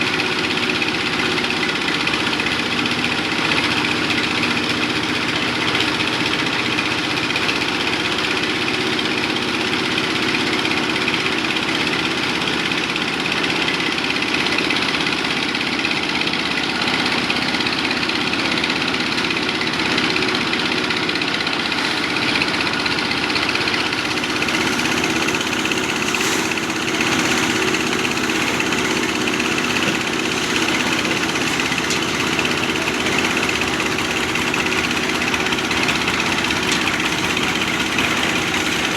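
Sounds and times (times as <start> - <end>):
machinery engine running: 0.0 - 38.9.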